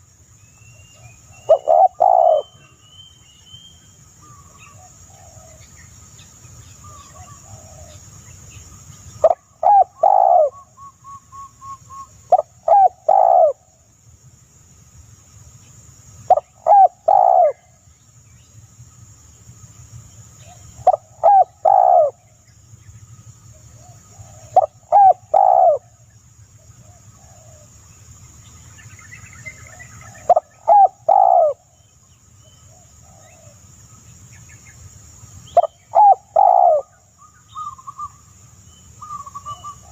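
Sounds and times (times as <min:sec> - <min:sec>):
faint bird chirps: 0:00.0 - 0:13.9, 0:19.8 - 0:39.9
steady high hiss: 0:00.0 - 0:39.9.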